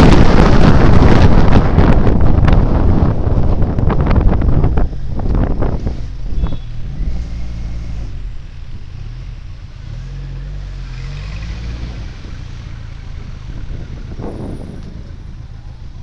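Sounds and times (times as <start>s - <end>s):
wind noise on microphone: 0.0s - 9.4s, 11.0s - 16.0s.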